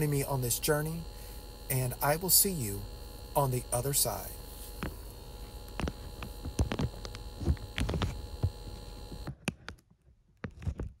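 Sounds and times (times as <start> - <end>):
electrical hum: 0.0 - 9.7.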